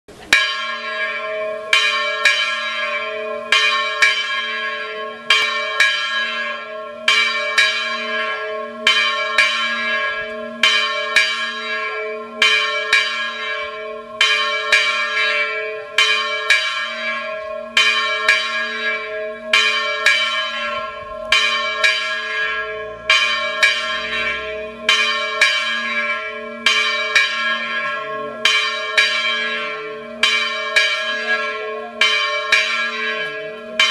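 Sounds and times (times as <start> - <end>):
church bells ringing: 0.2 - 33.9.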